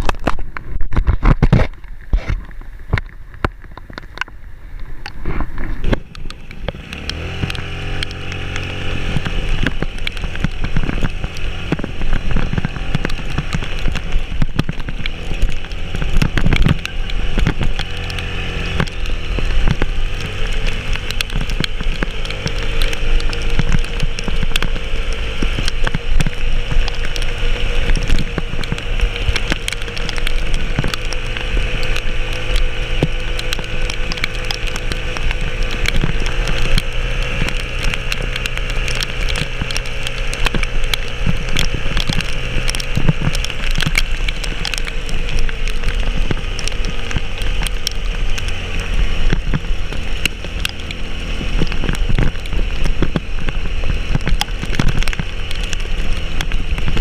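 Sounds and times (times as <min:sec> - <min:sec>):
rain hiss: 0:01.9 - 0:57.0
vehicle engine running: 0:03.2 - 0:57.0.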